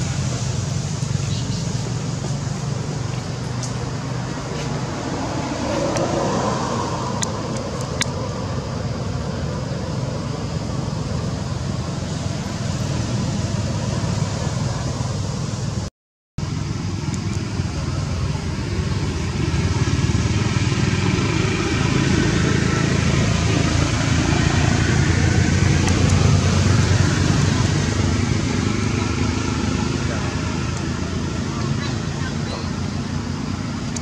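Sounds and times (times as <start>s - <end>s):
engine rumbling: 0.0s - 34.0s.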